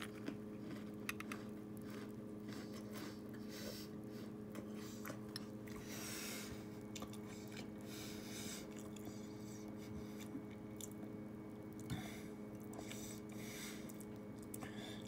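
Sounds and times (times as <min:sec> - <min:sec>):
crunchy wet chewing: 0:00.0 - 0:14.8
steady low hum: 0:00.0 - 0:15.0.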